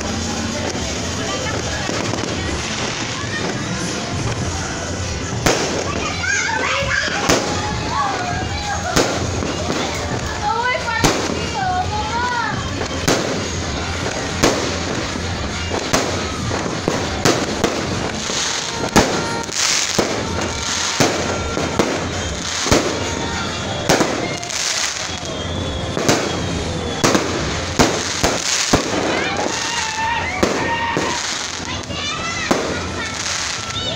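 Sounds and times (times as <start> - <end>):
firework bangs: 0.0 - 33.9
firework crackling: 0.0 - 33.9.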